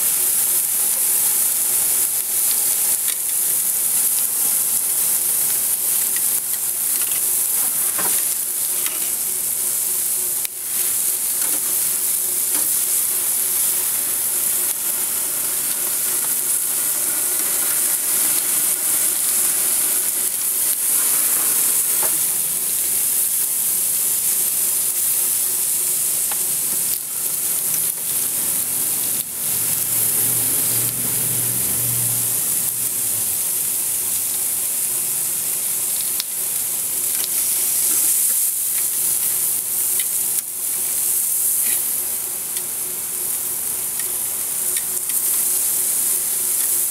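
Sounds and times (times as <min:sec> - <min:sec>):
vegetables sizzling in a wok: 0:00.0 - 0:46.9.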